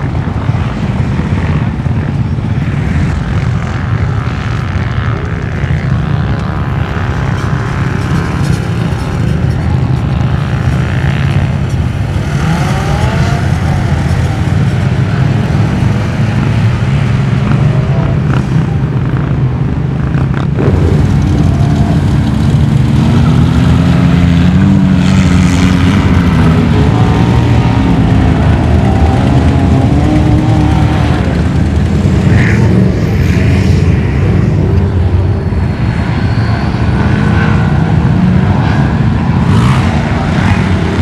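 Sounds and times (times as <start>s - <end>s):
engine revving: 0.0s - 41.0s
low engine rumble: 0.0s - 41.0s.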